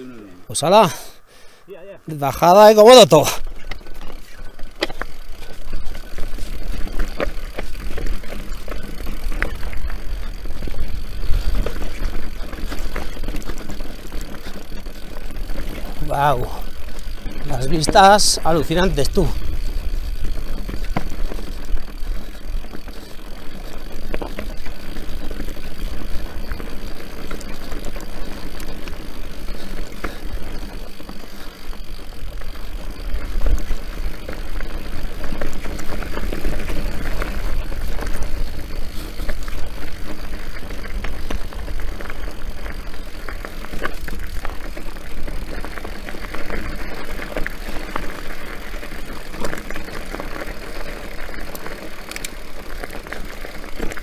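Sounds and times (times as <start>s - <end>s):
bike clicks and rattles: 2.1s - 54.0s
tyres crunching over earth and stones: 3.2s - 54.0s.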